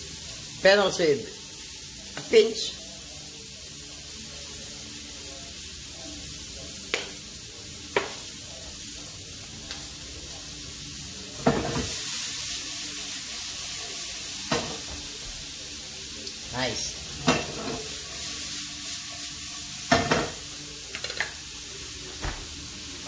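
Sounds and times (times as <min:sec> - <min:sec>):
onion sizzling in frying pan: 0:00.0 - 0:23.0.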